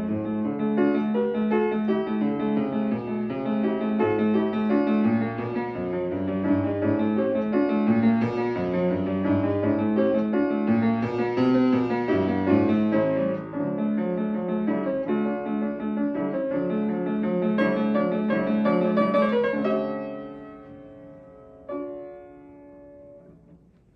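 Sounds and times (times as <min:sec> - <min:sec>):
fortepiano notes: 0:00.0 - 0:23.9.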